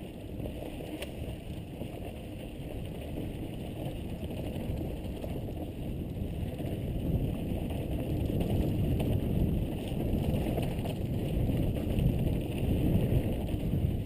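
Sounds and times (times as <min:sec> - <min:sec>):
bike tyres rumbling over dirt: 0:00.0 - 0:14.0
wind buffeting microphone: 0:00.0 - 0:14.0.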